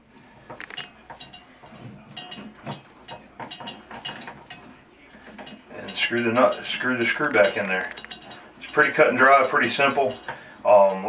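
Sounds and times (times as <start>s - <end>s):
screwdriver clicking and scraping metal: 0.5s - 11.0s.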